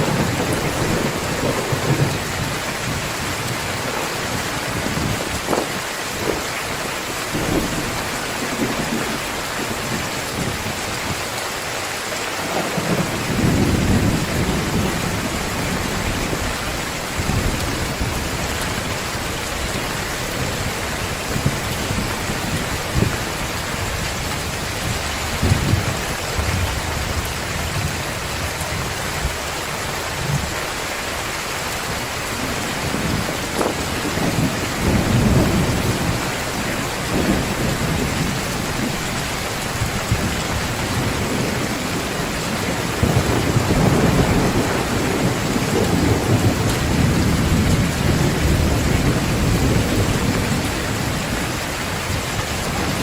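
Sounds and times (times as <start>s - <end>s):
thunder rumbling: 0.0s - 11.2s, 12.4s - 53.0s
heavy rain pouring: 0.0s - 53.0s.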